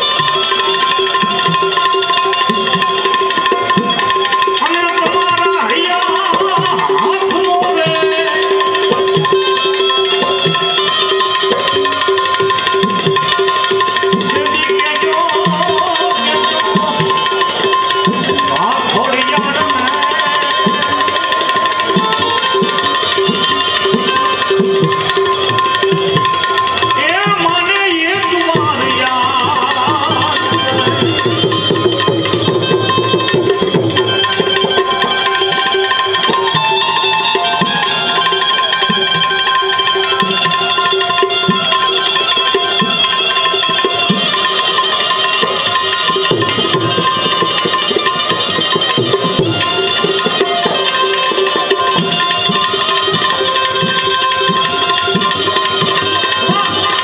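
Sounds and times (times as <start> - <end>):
held melody instrument notes: 0.0 - 57.0
tabla rhythm: 0.0 - 57.0.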